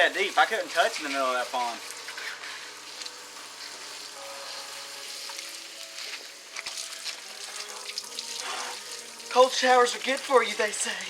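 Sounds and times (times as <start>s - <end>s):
shower water spraying: 0.0s - 11.0s.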